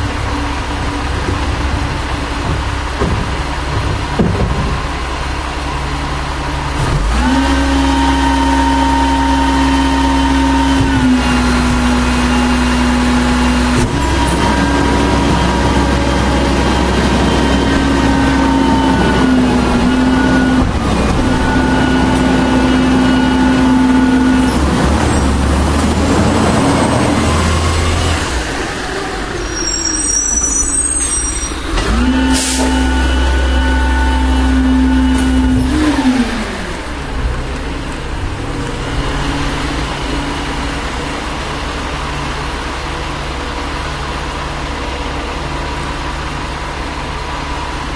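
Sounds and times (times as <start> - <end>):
diesel truck engine revving: 0.0 - 47.9.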